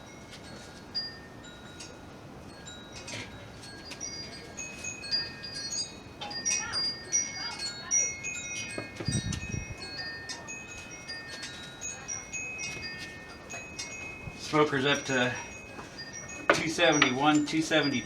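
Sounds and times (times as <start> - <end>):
wind chimes ringing: 0.0 - 18.0.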